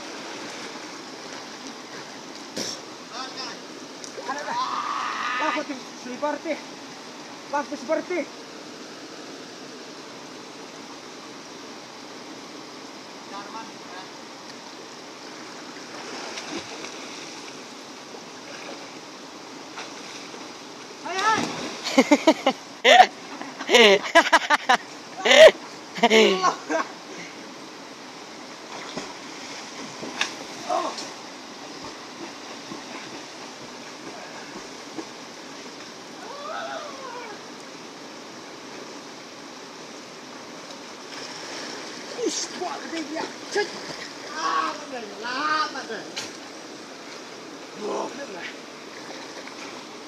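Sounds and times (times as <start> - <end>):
river rushing: 0.0 - 50.0.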